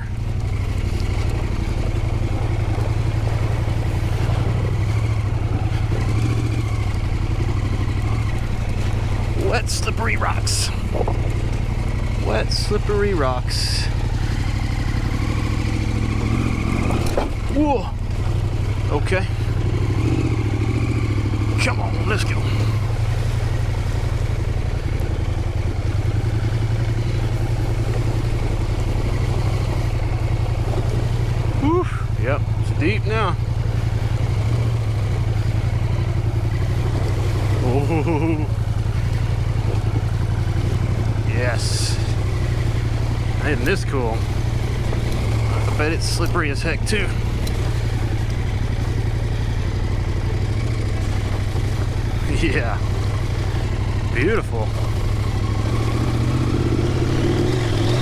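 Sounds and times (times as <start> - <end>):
motorcycle engine running at low revs: 0.0 - 58.0.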